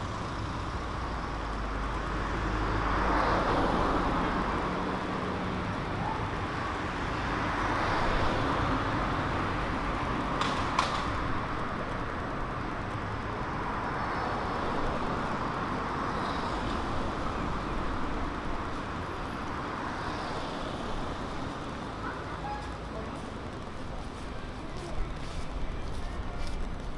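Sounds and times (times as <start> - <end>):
passing cars: 0.0 - 26.9.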